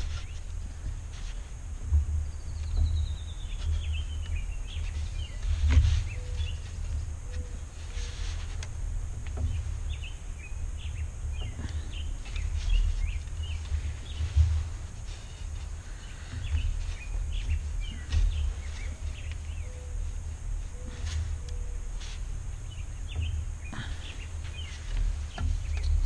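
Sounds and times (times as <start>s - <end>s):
low uneven rumble: 0.0s - 26.0s
small birds chirping: 0.0s - 26.0s.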